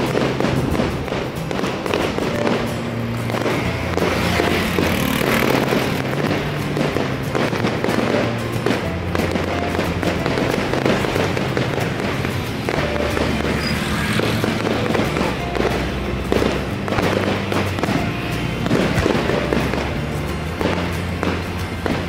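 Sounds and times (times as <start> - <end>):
fireworks crackling and popping: 0.0 - 22.0
music with steady bass line: 0.0 - 22.0.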